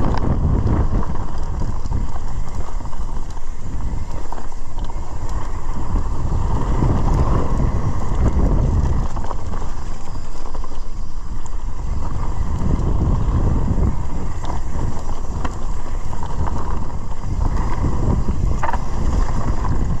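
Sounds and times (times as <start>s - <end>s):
bike clicks and rattles: 0.0s - 20.0s
bike tyre noise: 0.0s - 20.0s
wind buffeting microphone: 0.0s - 20.0s.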